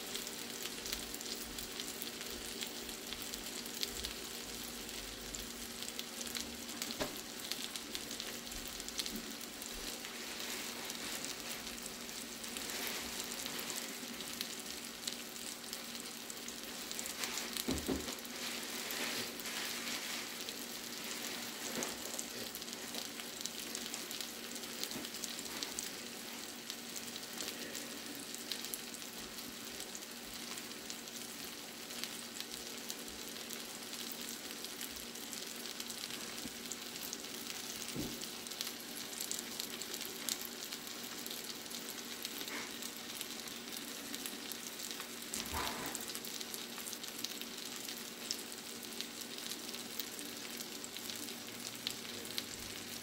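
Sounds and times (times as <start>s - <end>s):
fish sizzling in a frying pan: 0.0s - 53.0s.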